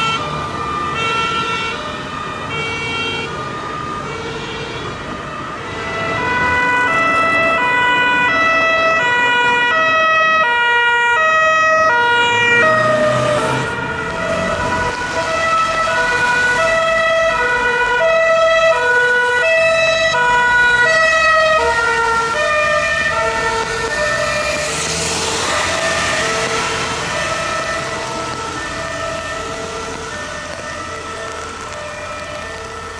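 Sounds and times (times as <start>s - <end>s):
police car two-tone siren: 0.0s - 32.9s
traffic noise: 0.0s - 32.9s.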